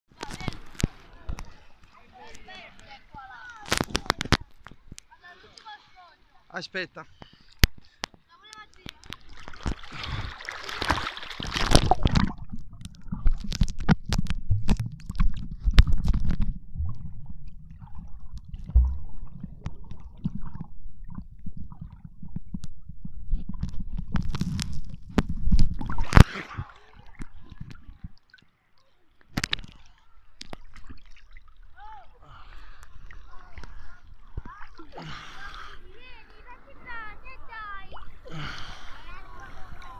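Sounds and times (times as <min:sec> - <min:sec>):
underwater water sloshing: 0:00.1 - 0:39.9
water splashes: 0:07.2 - 0:39.9.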